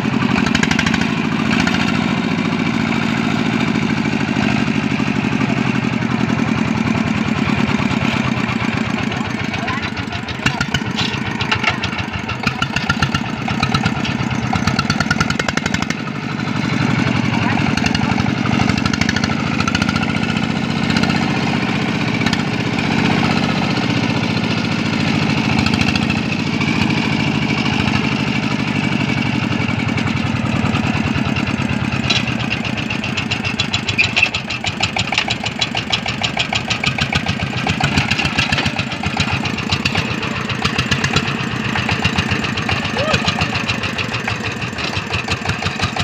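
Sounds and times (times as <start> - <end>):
diesel tractor engine chugging: 0.0 - 46.0.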